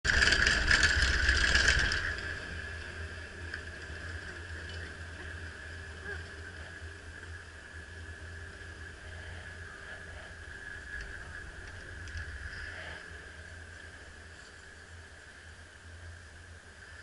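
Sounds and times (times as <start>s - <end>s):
chairlift rattling clatter: 0.0s - 16.0s
low rumble: 0.0s - 17.0s
faint high hum: 0.1s - 17.0s.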